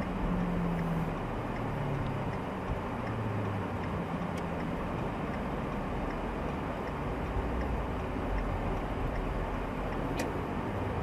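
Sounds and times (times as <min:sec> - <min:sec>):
car engine and tyres humming: 0:00.0 - 0:11.0
turn signal ticking: 0:00.0 - 0:11.0.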